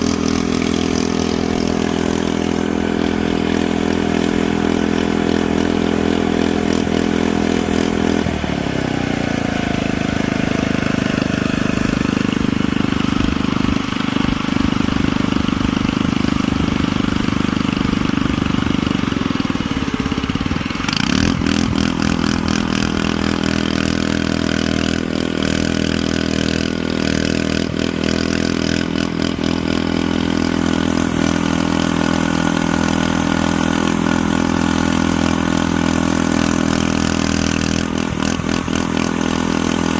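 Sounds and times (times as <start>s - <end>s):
model bulldozer engine running: 0.0s - 39.9s.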